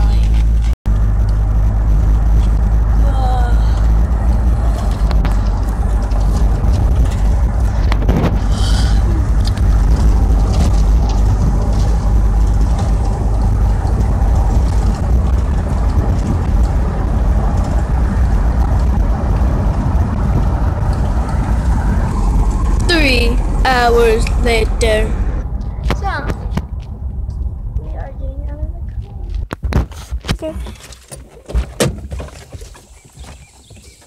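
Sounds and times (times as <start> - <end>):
car cabin road and engine rumble: 0.0 - 34.0.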